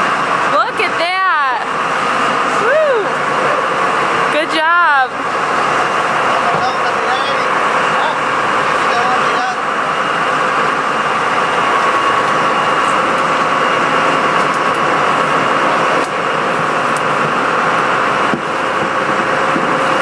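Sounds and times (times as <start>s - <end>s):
boat engine droning: 0.0s - 20.0s
rushing wake water: 0.0s - 20.0s.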